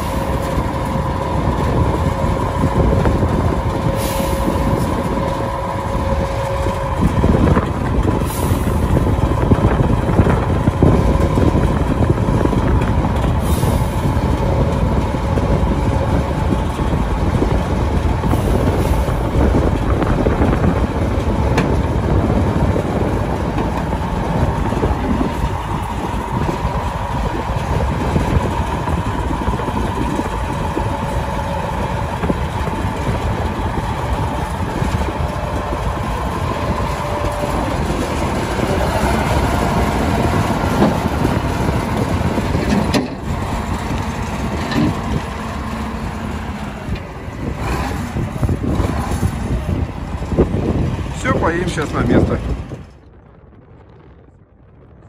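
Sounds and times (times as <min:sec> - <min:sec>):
steady whine: 0:00.0 - 0:55.0
tractor diesel engine running: 0:00.0 - 0:55.0.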